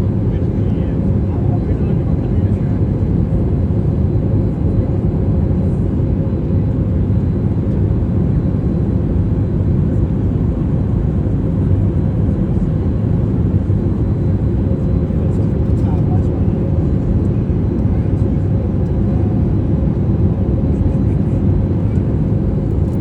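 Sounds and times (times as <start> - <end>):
jet engine and airflow rumble: 0.0 - 23.0.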